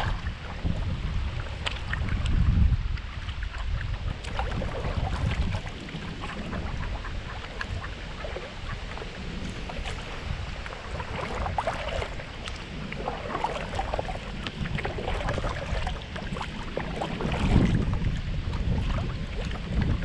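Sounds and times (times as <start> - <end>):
water splashing around kayak: 0.0 - 20.0
wind buffeting microphone: 0.0 - 20.0.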